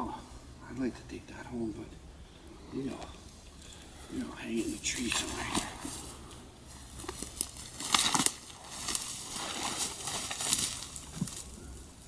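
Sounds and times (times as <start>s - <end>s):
dry brush rustling and crackling: 0.7s - 12.0s.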